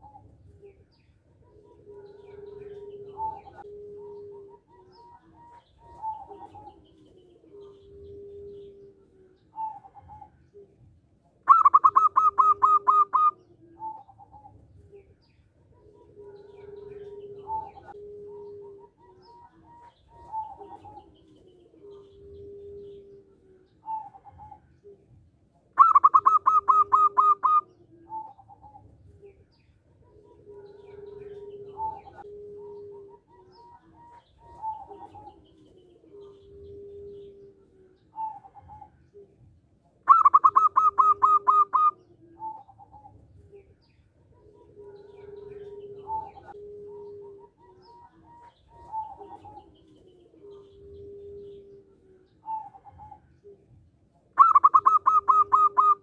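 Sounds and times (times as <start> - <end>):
dove soft low coos: 0.0 - 56.0.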